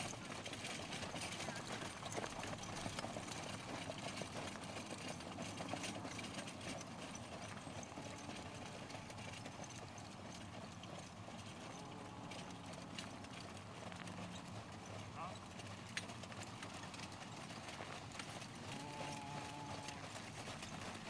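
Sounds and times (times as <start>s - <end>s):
hooves trotting on sand: 0.0s - 21.0s.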